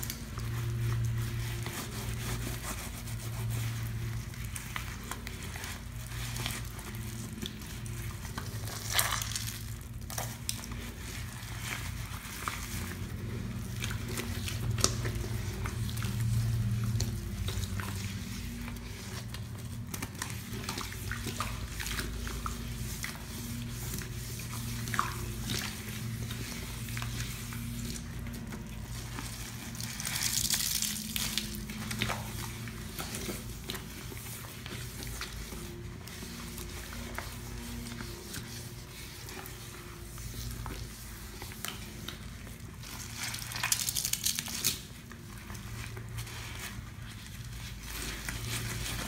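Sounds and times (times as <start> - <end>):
gloved hands scrubbing a sink: 0.0 - 49.0
low steady hum: 0.0 - 49.0.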